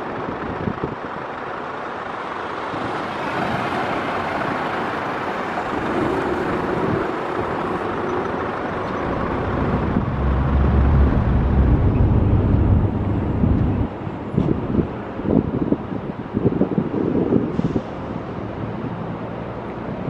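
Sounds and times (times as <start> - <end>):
wind buffeting microphone: 0.0 - 1.6, 2.5 - 19.0
heavy truck diesel engine rumble: 0.0 - 20.0
roadway traffic noise: 0.0 - 20.0.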